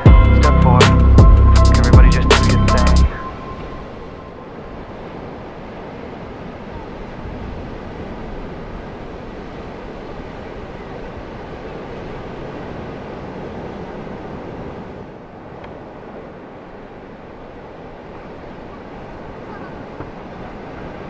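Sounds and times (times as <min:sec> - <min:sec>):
ocean surf breaking: 0:00.0 - 0:21.0
wind buffeting microphone: 0:03.0 - 0:21.0.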